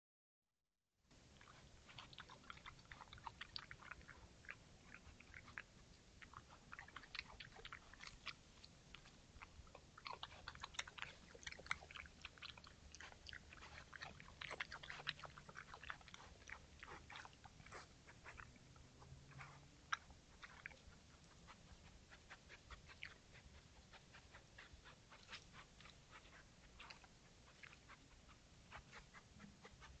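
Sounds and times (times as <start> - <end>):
animal chewing and crunching: 1.2 - 30.0.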